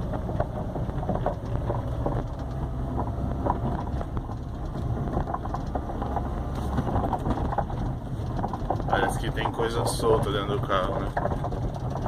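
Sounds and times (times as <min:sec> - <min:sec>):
road rumble inside car: 0:00.0 - 0:12.0
suspension knocks and rattles: 0:00.0 - 0:12.0.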